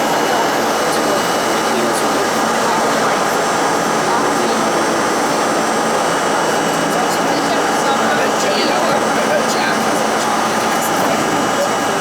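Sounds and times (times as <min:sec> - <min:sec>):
subway train wheels on rails: 0:00.0 - 0:12.0.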